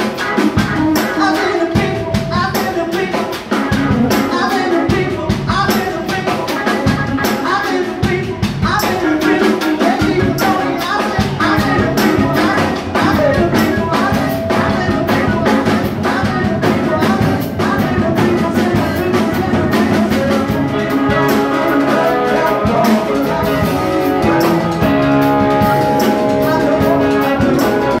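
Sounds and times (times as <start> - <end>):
drum kit steady beat: 0.0 - 28.0
electric guitars: 0.0 - 28.0
keyboard: 0.0 - 28.0
singing into microphones: 0.0 - 28.0.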